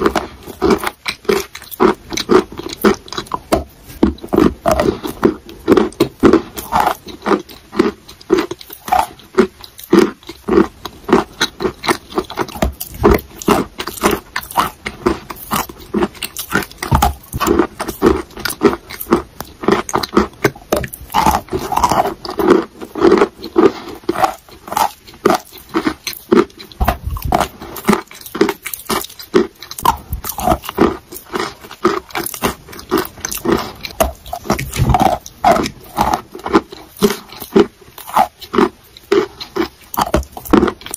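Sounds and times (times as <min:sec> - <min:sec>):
chewing crunchy chalk: 0:00.0 - 0:40.9.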